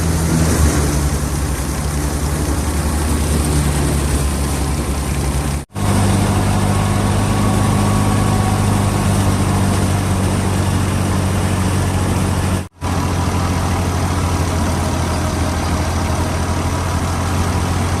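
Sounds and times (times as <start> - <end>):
thresher machinery noise: 0.0 - 18.0
tractor diesel engine running: 0.0 - 18.0.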